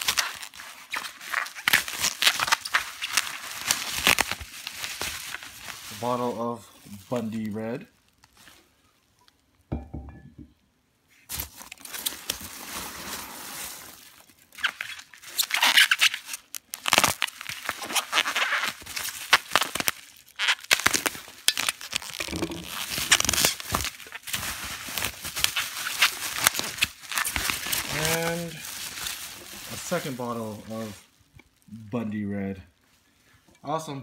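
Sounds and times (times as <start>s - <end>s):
packing peanuts rustling: 0.0s - 8.8s, 11.3s - 31.7s
bubble wrap crinkling: 0.0s - 9.6s, 11.1s - 33.0s.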